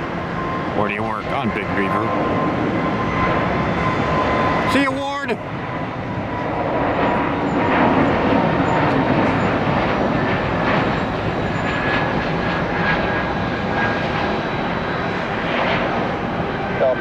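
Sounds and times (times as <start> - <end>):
faint jet engine whine: 0.0 - 17.0
jet engines rushing: 0.0 - 17.0.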